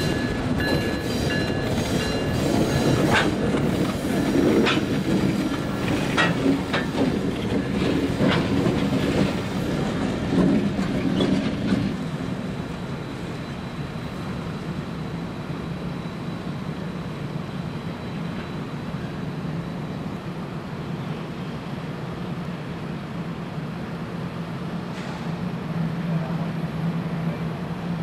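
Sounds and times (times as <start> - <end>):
diesel locomotive engines droning: 0.0 - 28.0.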